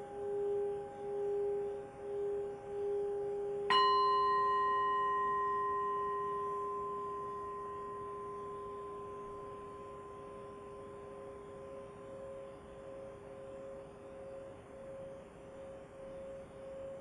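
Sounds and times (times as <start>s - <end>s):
higher singing bowl struck: 0.0s - 13.8s
singing bowl low tone: 0.0s - 17.0s.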